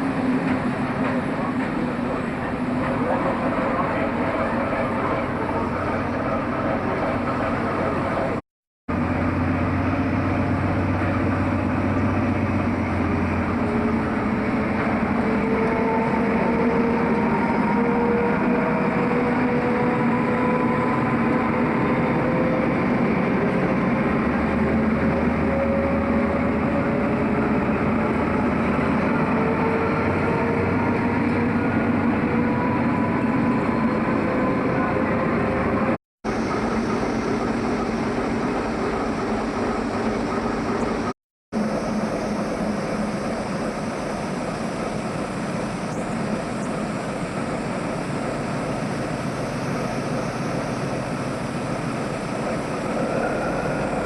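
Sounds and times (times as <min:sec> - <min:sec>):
train rail noise with rising whine: 0:00.0 - 0:54.0.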